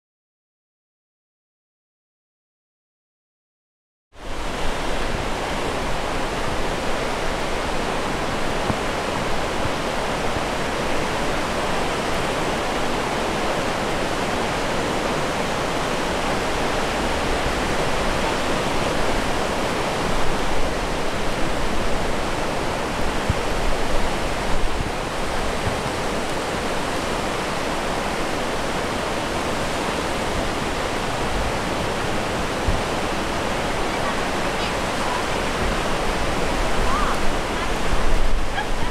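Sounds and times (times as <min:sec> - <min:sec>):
floodwater rushing: 0:04.2 - 0:38.9.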